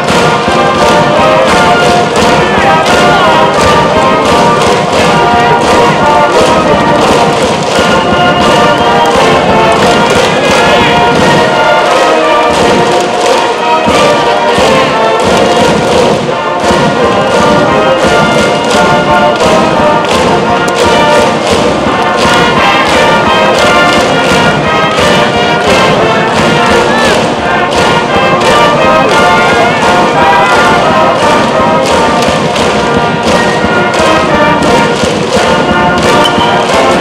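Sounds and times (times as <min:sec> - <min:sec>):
brass band playing: 0:00.0 - 0:37.0
steady drum beat: 0:00.0 - 0:37.0.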